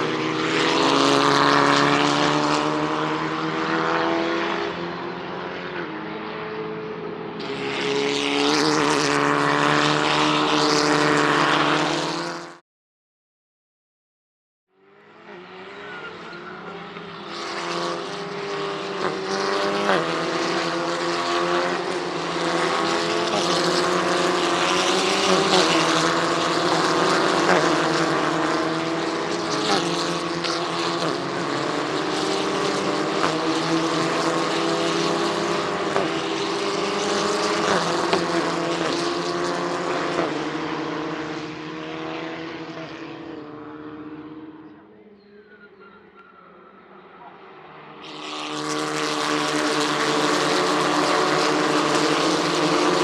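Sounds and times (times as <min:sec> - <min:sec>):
racing car engines running hard: 0:00.0 - 0:12.6, 0:14.7 - 0:53.0.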